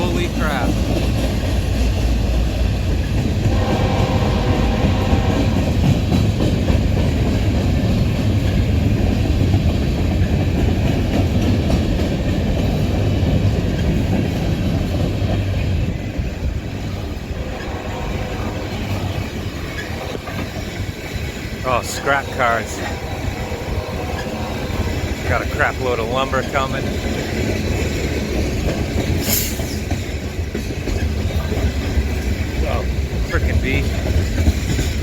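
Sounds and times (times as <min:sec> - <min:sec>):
freight train rumbling: 0:00.0 - 0:35.0
wheels clacking over rails: 0:00.0 - 0:35.0.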